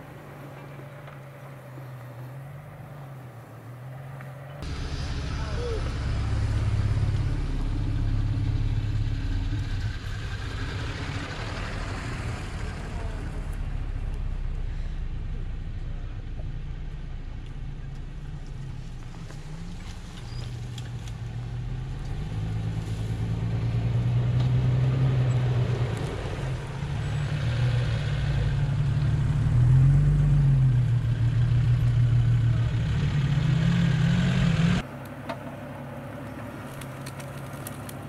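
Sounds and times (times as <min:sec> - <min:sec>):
suv engine running: 0:04.6 - 0:38.0.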